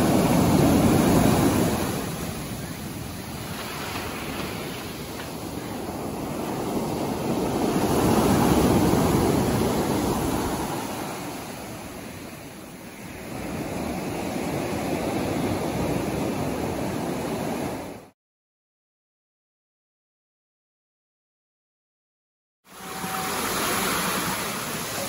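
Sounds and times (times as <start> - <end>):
surf on pebble beach: 0.0 - 18.1, 22.7 - 25.0.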